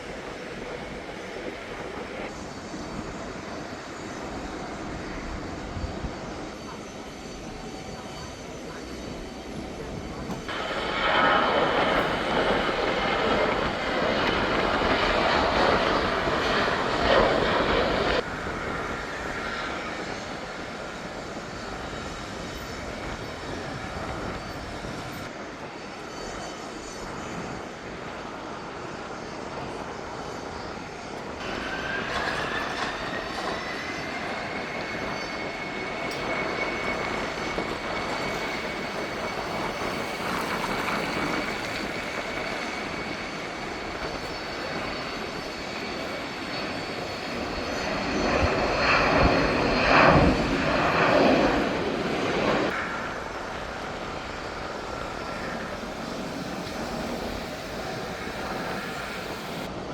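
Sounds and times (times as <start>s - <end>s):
jet engines rushing: 0.0s - 59.9s.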